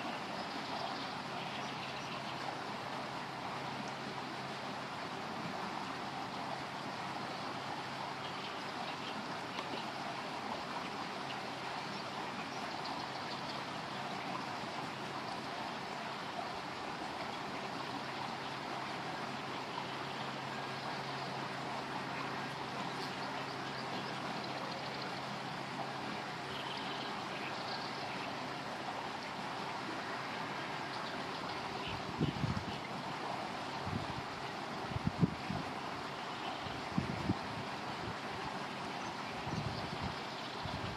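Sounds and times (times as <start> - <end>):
flowing river water: 0.0 - 40.9.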